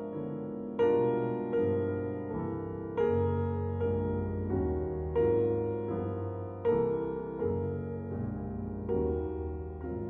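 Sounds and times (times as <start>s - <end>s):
slow piano chords: 0.0s - 10.0s.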